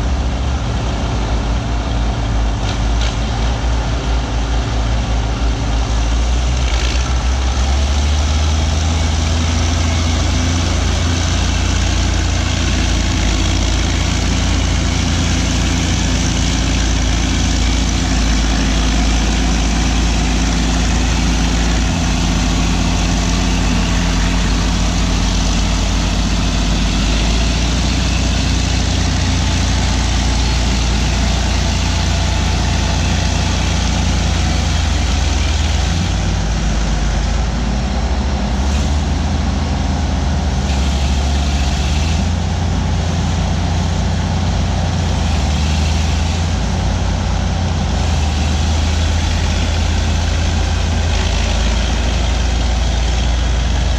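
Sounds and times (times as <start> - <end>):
bulldozer diesel engines running: 0.0 - 53.9.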